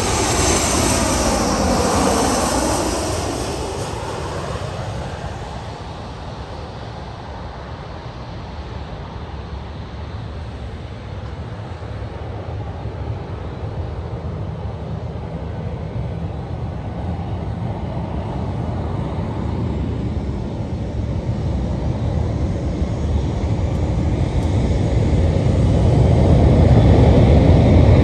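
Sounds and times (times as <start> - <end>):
jet engine roar with hiss: 0.0 - 28.0.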